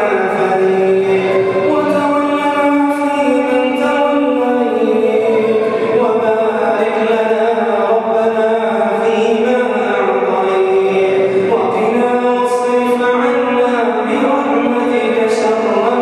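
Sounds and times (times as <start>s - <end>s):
man chanting through a microphone: 0.0s - 16.0s.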